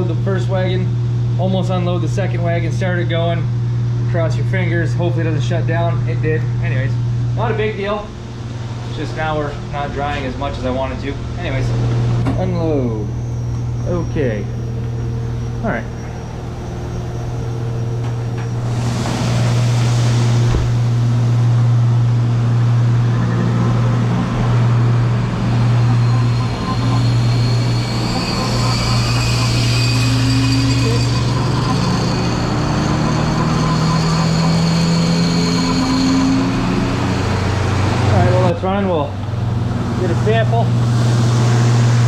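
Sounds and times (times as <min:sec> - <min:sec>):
farm machinery droning: 0:03.7 - 0:42.0.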